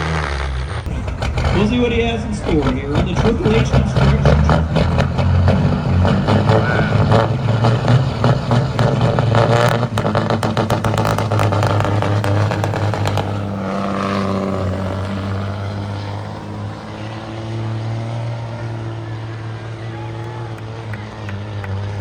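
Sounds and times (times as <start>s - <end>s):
diesel truck engine running hard: 0.0s - 22.0s.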